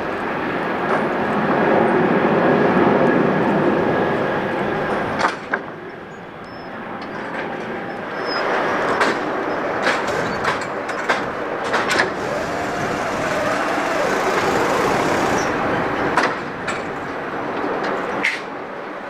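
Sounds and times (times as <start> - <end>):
distant aircraft engine rumble: 0.0 - 18.2.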